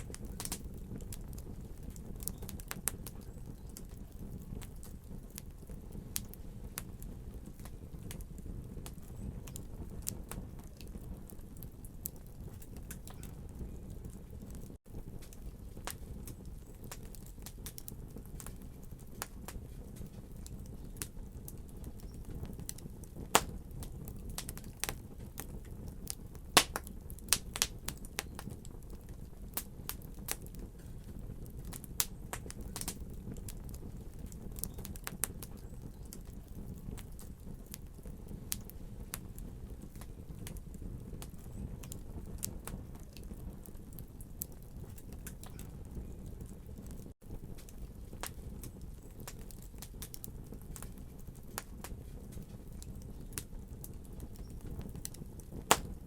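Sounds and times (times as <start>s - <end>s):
fire flames rumbling: 0.0s - 56.0s
wood fire crackling and popping: 0.0s - 56.0s.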